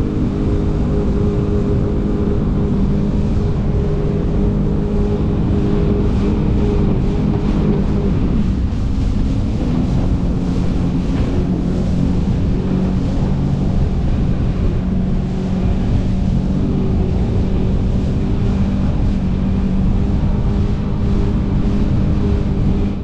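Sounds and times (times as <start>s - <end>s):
jet ski engine droning: 0.0s - 23.0s
wind rumble on microphone: 0.0s - 23.0s.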